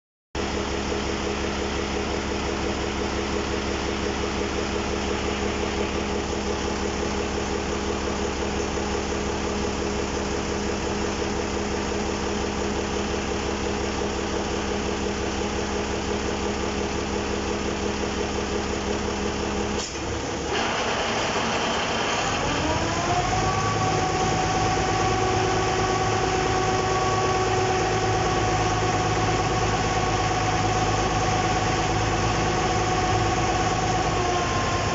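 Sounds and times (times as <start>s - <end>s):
diesel boat engine running: 0.4s - 34.9s.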